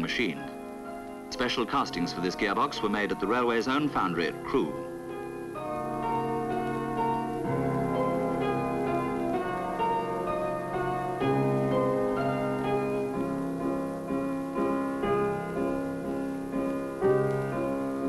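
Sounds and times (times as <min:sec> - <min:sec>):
piano background music: 0:00.0 - 0:18.0.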